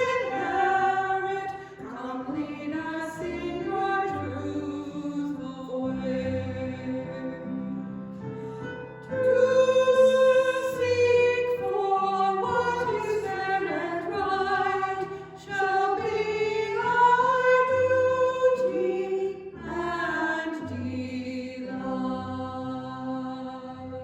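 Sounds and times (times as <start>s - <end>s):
person singing sacred song: 0.0s - 7.2s, 9.1s - 21.6s.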